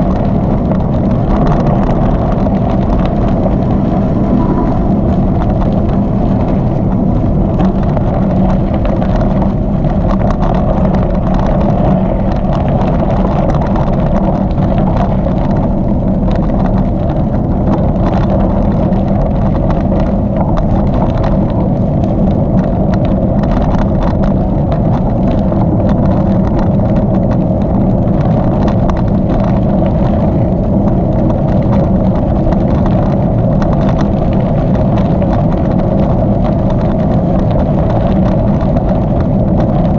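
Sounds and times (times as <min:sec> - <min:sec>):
bicycle rolling on gravel: 0:00.0 - 0:39.9
bike clicks and rattles: 0:00.0 - 0:39.9
wind buffeting microphone: 0:00.0 - 0:39.9.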